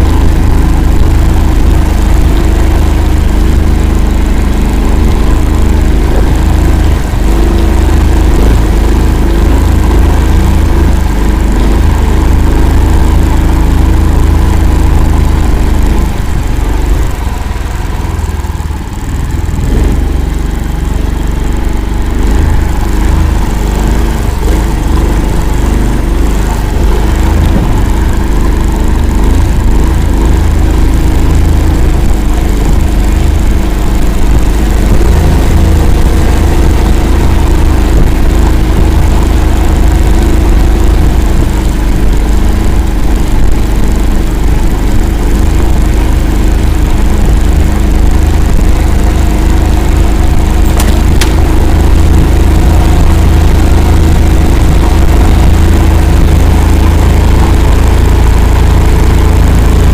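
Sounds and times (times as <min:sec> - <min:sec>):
vehicle engine under load: 0:00.0 - 0:59.9.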